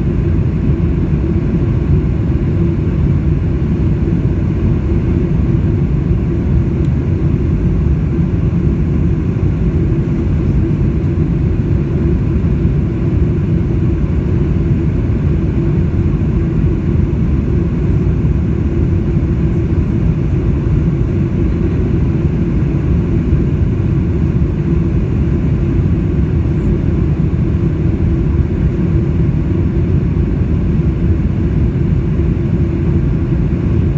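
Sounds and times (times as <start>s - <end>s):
aircraft cabin engine drone: 0.0s - 33.9s
faint steady hum: 0.0s - 33.9s.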